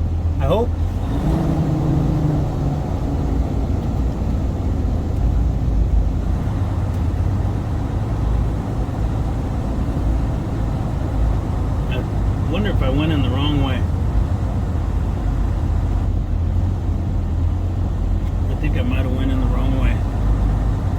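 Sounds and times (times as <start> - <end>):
diesel truck engine rumbling: 0.0 - 20.9.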